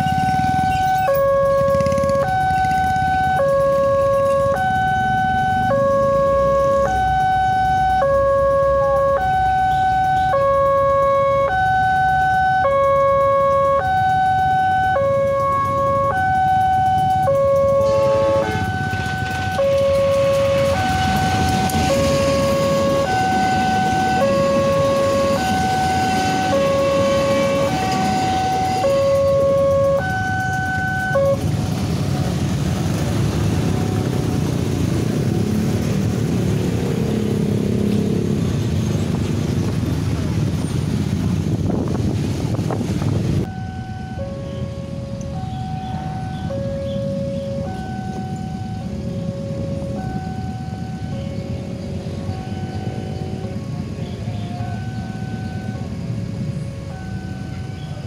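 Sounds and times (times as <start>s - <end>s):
motorcycle engines pulling away: 0.0s - 8.0s, 11.5s - 58.0s
two-tone crossing alarm: 0.0s - 38.3s, 43.4s - 58.0s
passing train: 0.0s - 58.0s.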